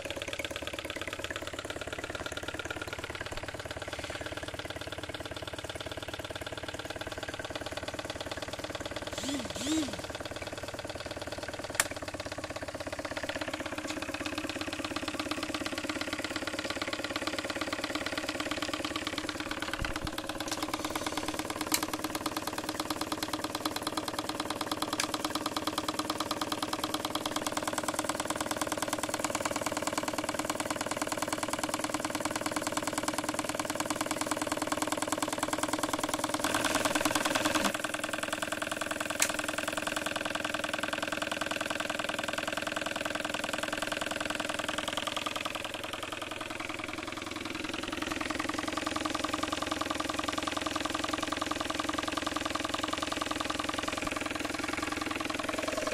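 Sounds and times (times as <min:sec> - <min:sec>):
model steam engine exhaust beats: 0:03.8 - 0:55.9.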